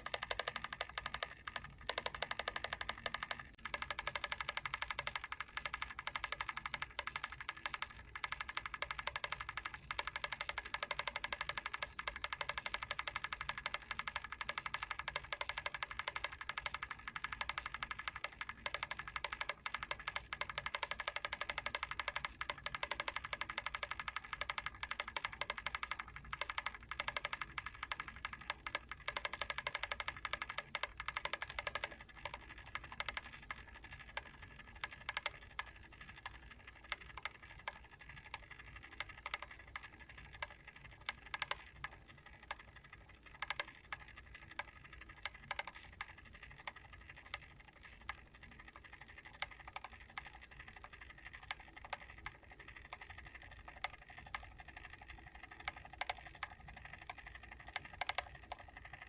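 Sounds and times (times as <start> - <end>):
mechanical timer ticking: 0.0 - 59.0.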